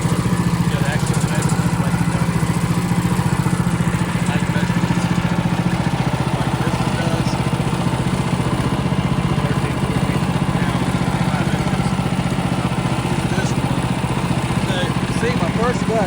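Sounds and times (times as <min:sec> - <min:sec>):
engine running with fast pulsing: 0:00.0 - 0:16.0.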